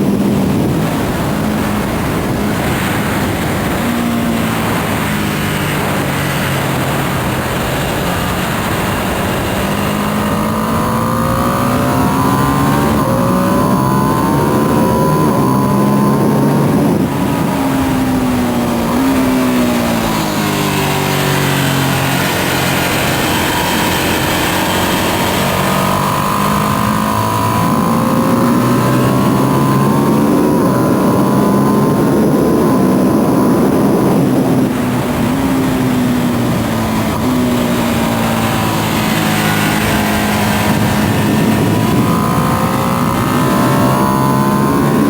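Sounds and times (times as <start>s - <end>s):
motorcycle engine running hard: 0.0s - 45.0s
wind rush: 0.0s - 45.0s.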